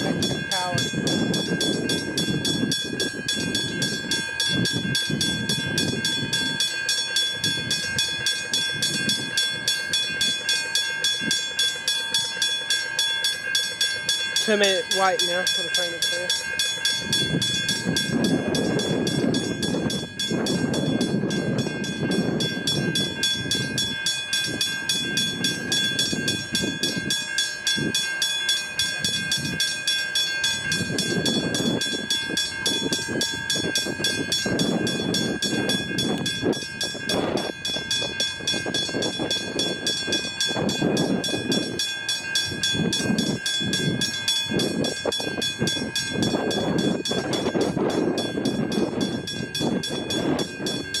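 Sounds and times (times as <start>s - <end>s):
level crossing bell ringing: 0.0s - 51.0s.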